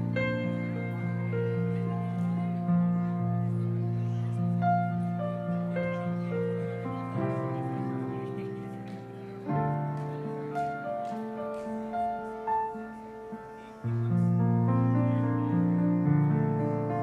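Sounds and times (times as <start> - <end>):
slow keyboard music: 0.0 - 17.0.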